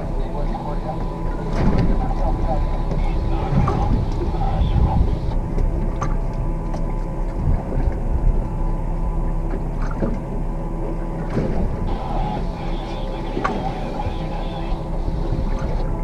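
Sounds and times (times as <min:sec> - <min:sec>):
outboard motor idling: 0:00.0 - 0:16.0
wind and water rumble: 0:00.0 - 0:16.0.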